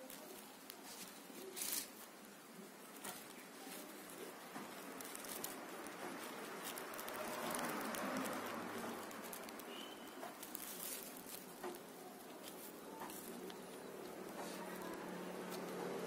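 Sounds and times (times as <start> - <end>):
rustling of leaves: 0.0 - 16.0.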